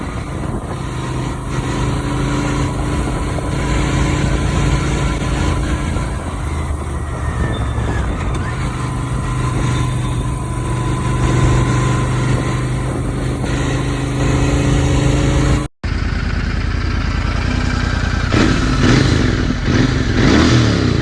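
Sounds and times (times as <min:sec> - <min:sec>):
motorcycle engine revving: 0:00.0 - 0:21.0
motorcycle engine running: 0:00.0 - 0:21.0.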